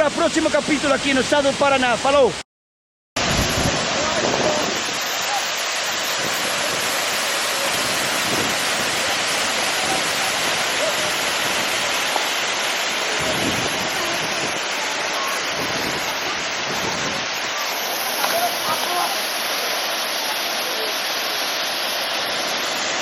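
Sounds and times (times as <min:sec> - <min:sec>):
waterfall roaring: 0:03.2 - 0:23.0.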